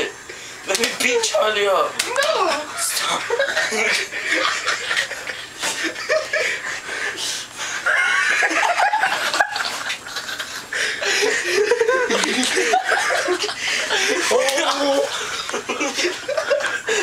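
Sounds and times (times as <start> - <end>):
men laughing: 0.8 - 17.0.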